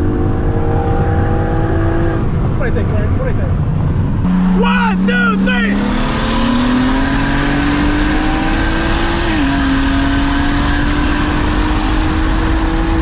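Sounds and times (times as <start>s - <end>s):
car engine accelerating hard: 0.0s - 2.6s, 4.1s - 13.0s.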